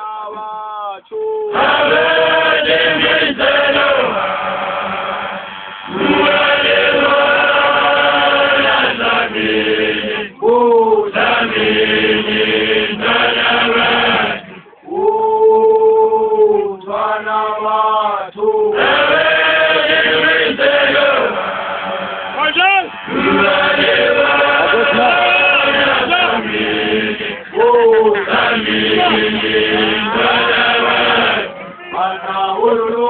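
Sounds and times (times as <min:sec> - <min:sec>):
group of voices chanting: 0:01.5 - 0:33.0.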